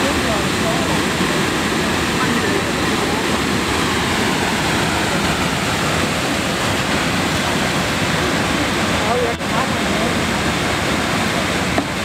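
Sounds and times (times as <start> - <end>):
river rapids over a waterfall: 0.0 - 12.0.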